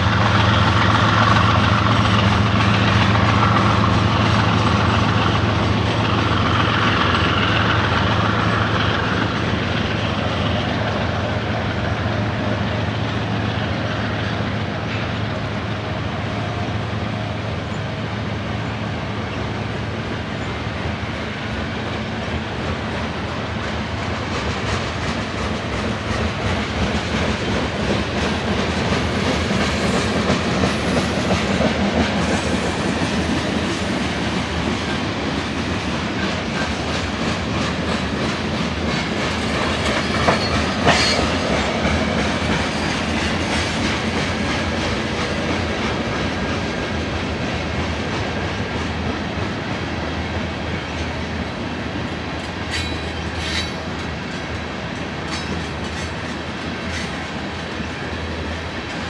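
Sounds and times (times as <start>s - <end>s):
diesel locomotive engine drone: 0.0s - 59.0s
train wheels clickety-clack on rails: 0.0s - 59.0s.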